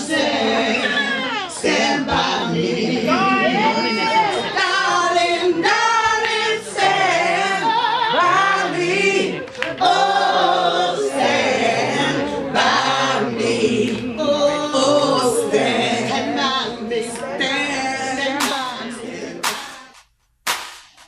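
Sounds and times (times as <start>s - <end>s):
people singing together: 0.0s - 20.0s.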